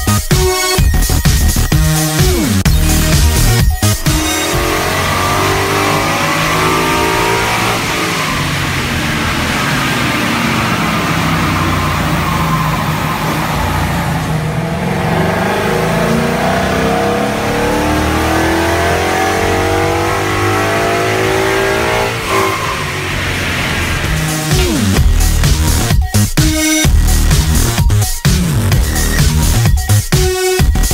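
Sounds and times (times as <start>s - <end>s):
car engine accelerating: 0.9s - 29.7s.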